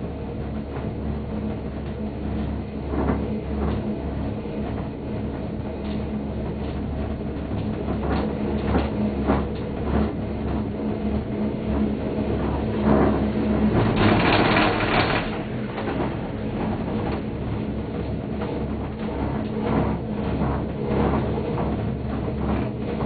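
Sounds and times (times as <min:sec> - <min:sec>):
gondola cabin hum: 0:00.0 - 0:23.0
low rumble: 0:00.0 - 0:23.0.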